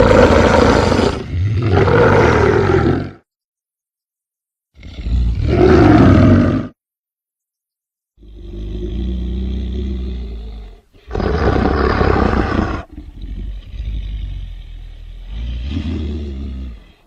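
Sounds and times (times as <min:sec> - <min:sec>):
animal roars: 0:00.0 - 0:03.2, 0:04.8 - 0:06.8, 0:08.2 - 0:17.0.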